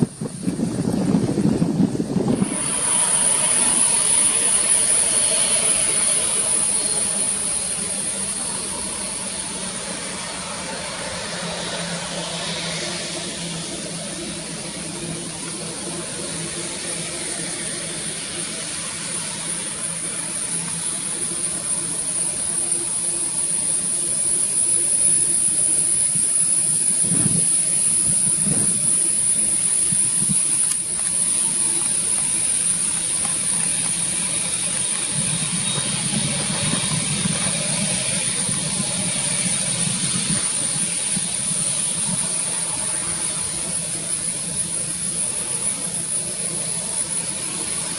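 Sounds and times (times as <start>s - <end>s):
high engine whine: 0.0s - 47.9s
jet engines running: 0.0s - 47.9s.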